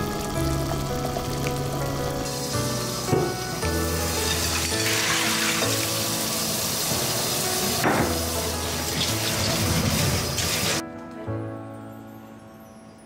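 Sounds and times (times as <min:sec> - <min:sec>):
tap water running into a strainer: 0:00.0 - 0:10.8
soft background music: 0:00.0 - 0:13.0.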